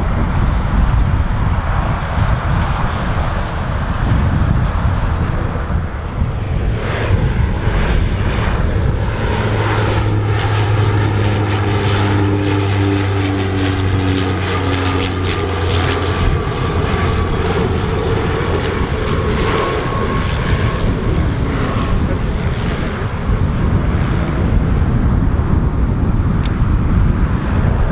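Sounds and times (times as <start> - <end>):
propeller plane droning overhead: 0.0 - 27.9.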